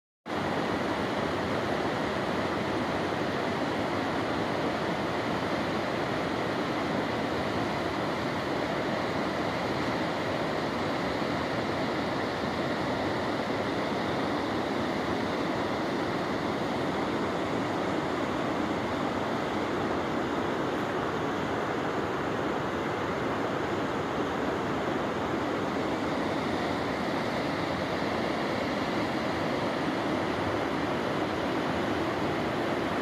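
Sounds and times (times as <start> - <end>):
river water rushing: 0.3 - 33.0.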